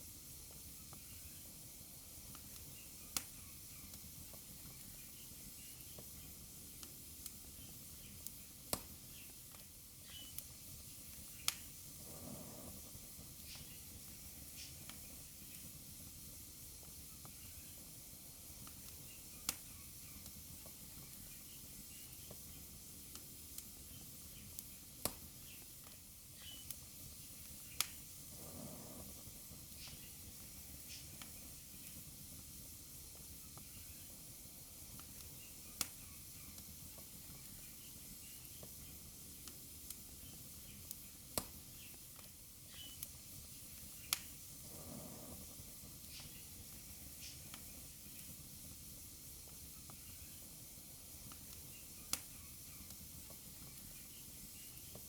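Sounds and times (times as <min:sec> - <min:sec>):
fire crackles and pops: 0:00.0 - 0:55.0
fire hissing: 0:00.0 - 0:55.0
soft low rush of flame: 0:00.0 - 0:55.0.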